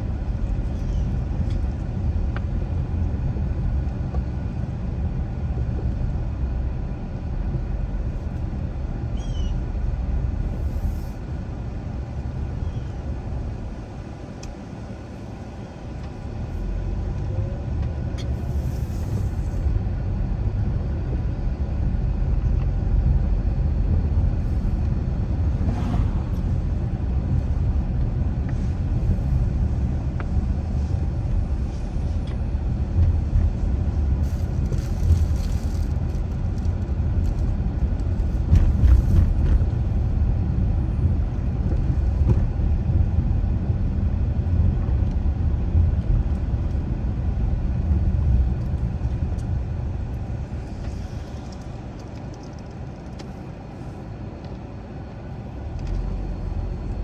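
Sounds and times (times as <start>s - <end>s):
car engine rumble: 0.0s - 57.0s
tyre road noise: 0.0s - 57.0s.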